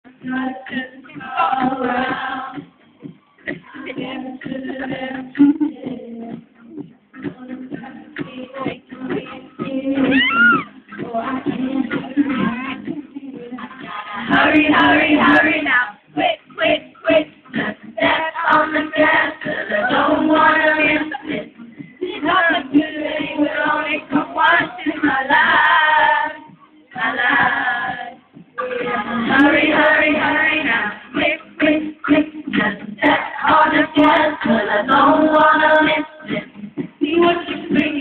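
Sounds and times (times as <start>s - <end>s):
amplified pop music: 0.0s - 38.0s
woman singing into a microphone: 0.1s - 2.6s, 3.5s - 6.5s, 7.2s - 38.0s.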